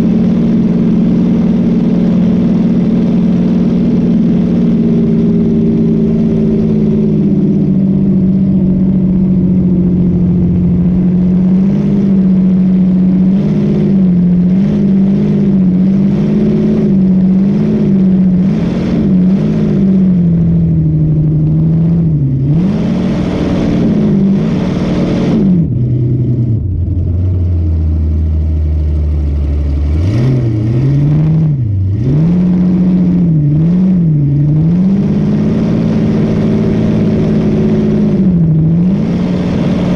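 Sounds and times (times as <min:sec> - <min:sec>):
boat engine running hard: 0:00.0 - 0:39.9.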